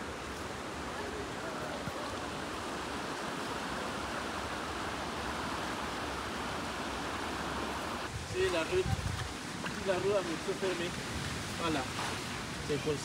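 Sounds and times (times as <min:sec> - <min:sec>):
river flowing over stones: 0:00.0 - 0:13.0.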